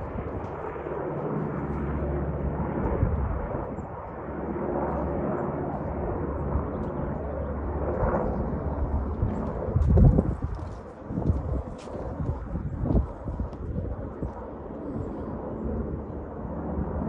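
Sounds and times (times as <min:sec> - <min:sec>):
helicopters flying over: 0:00.0 - 0:17.0.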